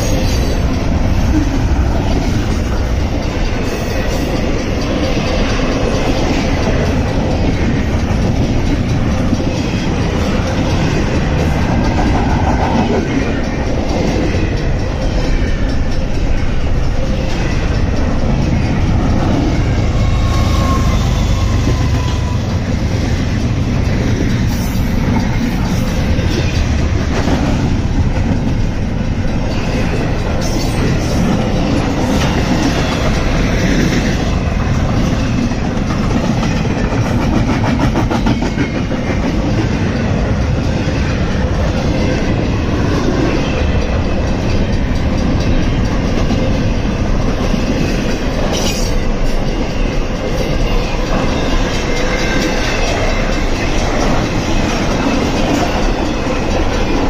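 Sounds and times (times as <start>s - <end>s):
clickety-clack over rail joints: 0.0s - 57.0s
freight cars rumbling on rails: 0.0s - 57.0s.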